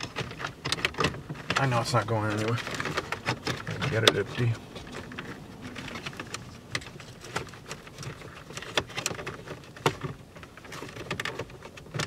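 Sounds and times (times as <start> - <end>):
wiring and plastic connectors rustling: 0.0 - 12.0.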